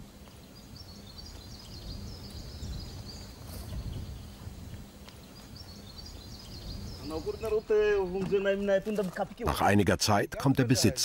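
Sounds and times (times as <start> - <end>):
small birds twittering: 0.0 - 9.5.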